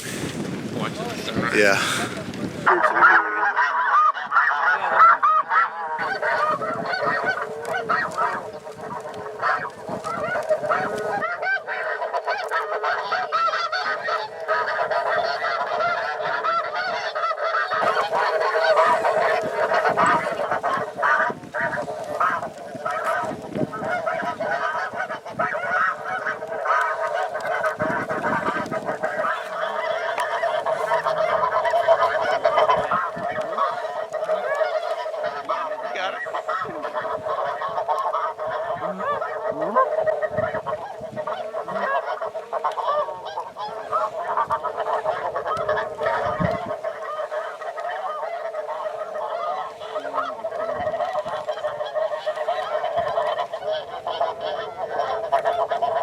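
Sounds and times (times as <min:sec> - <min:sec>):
geese honking: 0:01.2 - 0:56.0.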